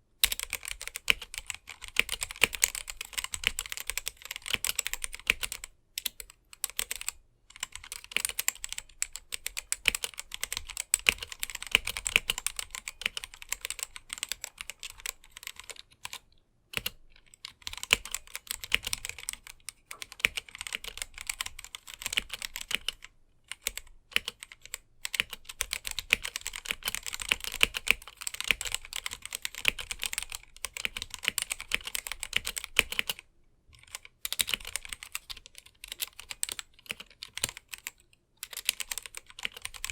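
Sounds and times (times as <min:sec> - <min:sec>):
mechanical keyboard typing: 0:00.2 - 0:33.2, 0:33.8 - 0:39.9.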